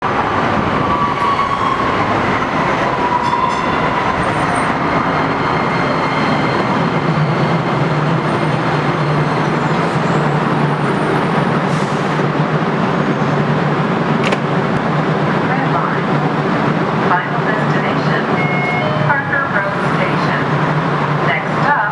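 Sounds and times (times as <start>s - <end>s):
low train hum: 0.0s - 21.9s
train rumbling on rails: 0.0s - 21.9s.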